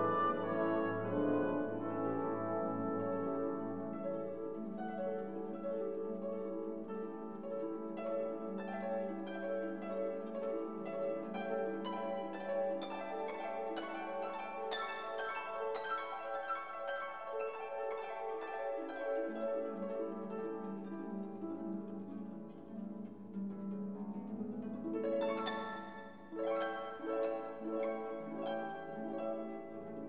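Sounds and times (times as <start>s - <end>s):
instrumental music with plucked notes: 0.0s - 30.0s.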